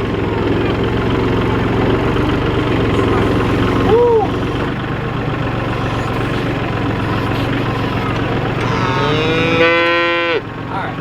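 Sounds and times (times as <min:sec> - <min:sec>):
tractor engine idling: 0:00.0 - 0:11.0
cattle calling: 0:00.4 - 0:10.5.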